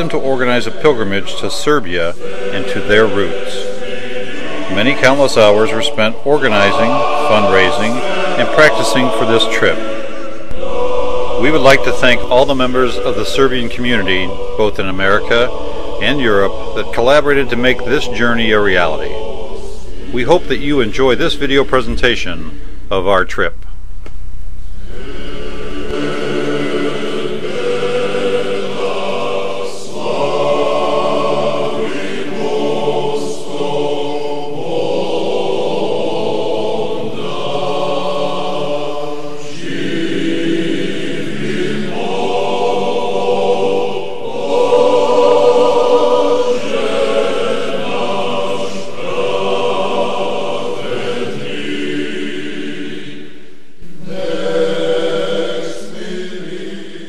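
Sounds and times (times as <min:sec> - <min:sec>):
men's choir chanting: 0:00.0 - 0:22.0, 0:24.8 - 0:57.0.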